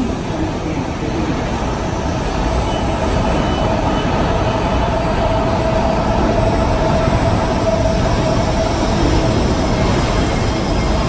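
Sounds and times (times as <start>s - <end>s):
train rail rumble: 0.0s - 11.0s.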